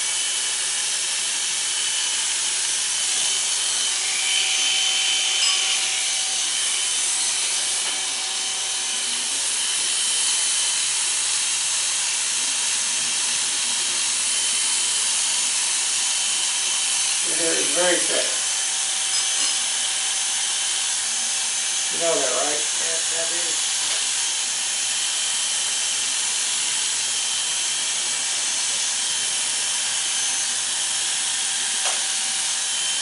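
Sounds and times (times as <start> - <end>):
electric hair clippers buzzing: 0.0 - 33.0.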